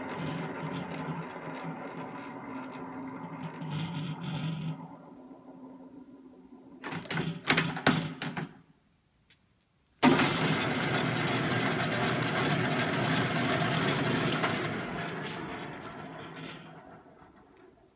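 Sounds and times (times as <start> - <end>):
mixer gear whir and rattle: 0.0 - 7.6, 10.0 - 17.9.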